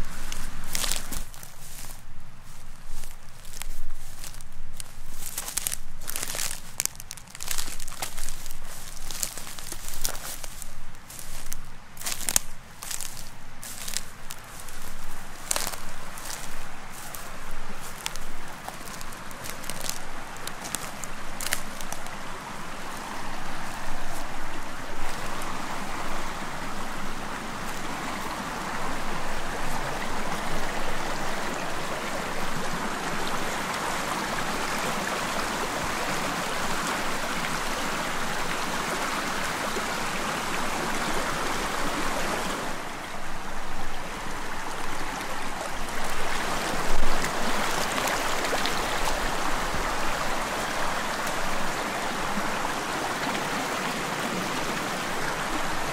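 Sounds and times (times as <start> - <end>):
stream flowing over stones: 0.0 - 55.9.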